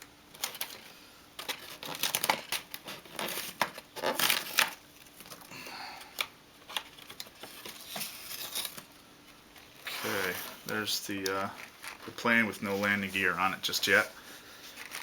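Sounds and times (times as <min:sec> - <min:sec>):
paper and tape crinkling: 0:00.3 - 0:05.5, 0:06.6 - 0:15.0.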